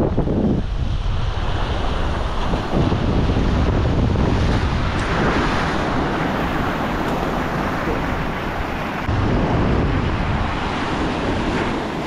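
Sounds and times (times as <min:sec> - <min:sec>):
wind rumbling on microphone: 0:00.0 - 0:12.0
waves breaking on rocks: 0:00.8 - 0:12.0.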